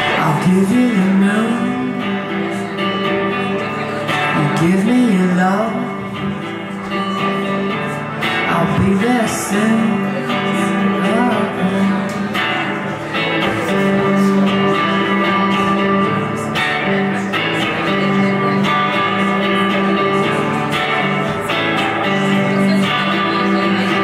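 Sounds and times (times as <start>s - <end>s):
electric guitar chords ringing: 0.0s - 24.0s.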